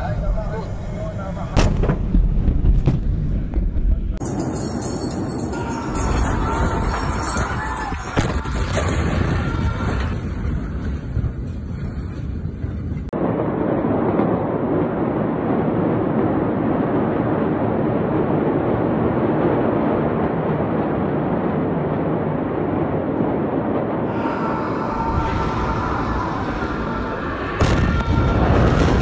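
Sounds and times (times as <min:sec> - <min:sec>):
low rumble: 0:00.0 - 0:29.0
wind on microphone: 0:00.0 - 0:29.0.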